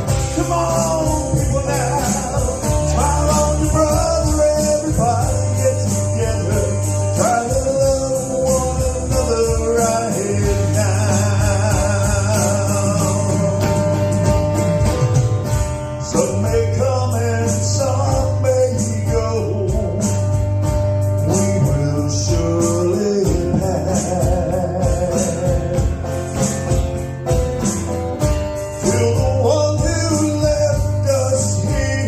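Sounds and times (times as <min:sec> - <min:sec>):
person singing: 0:00.0 - 0:14.2, 0:16.0 - 0:20.4, 0:21.1 - 0:26.1, 0:28.7 - 0:32.0
held bass notes: 0:00.0 - 0:32.0
live band playing: 0:00.0 - 0:32.0.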